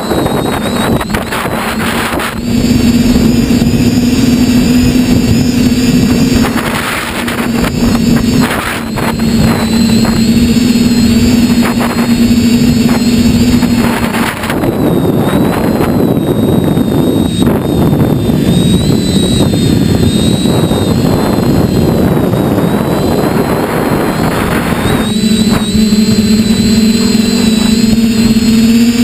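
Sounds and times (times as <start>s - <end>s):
model aircraft motor whining: 0.0s - 29.0s.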